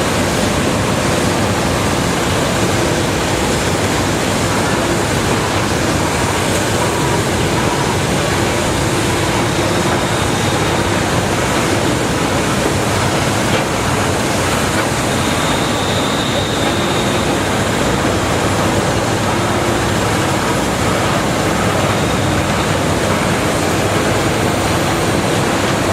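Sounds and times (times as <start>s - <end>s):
excavator diesel engine and hydraulics: 0.0s - 25.9s.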